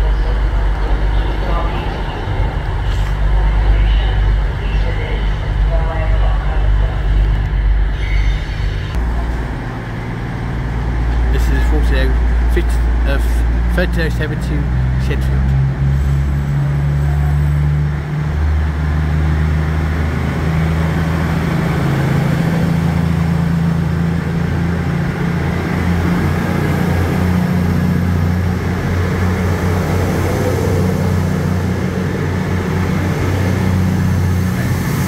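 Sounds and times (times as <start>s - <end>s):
diesel train engines droning: 0.0s - 35.0s.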